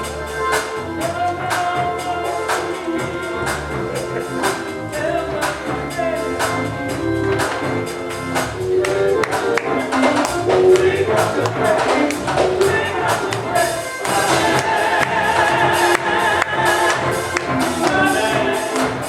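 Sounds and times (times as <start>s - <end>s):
gospel singing with instruments: 0.0s - 19.0s.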